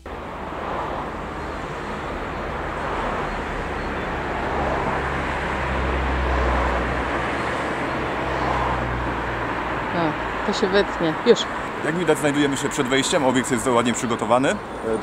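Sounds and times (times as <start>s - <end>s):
hiss of passing traffic: 0.0s - 15.0s
vehicle engine rumble: 0.0s - 15.0s.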